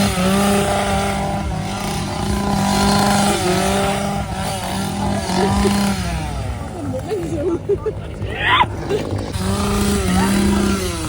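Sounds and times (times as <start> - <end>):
chainsaw engine at high revs: 0.0 - 11.0.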